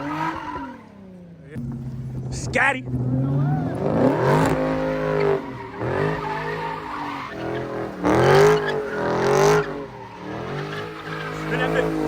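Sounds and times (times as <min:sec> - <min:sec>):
car engine revving: 0:00.0 - 0:12.0
tyres squealing: 0:02.3 - 0:12.0.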